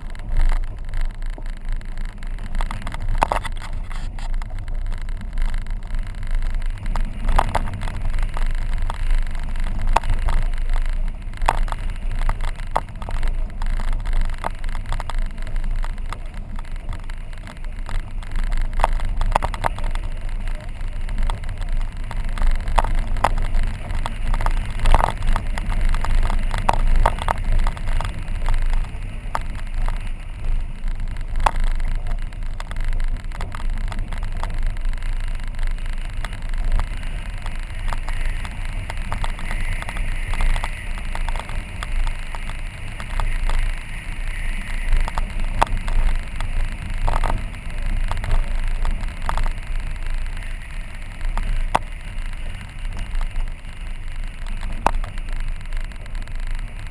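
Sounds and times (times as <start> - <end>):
tyres and engine rumbling: 0.0 - 56.9.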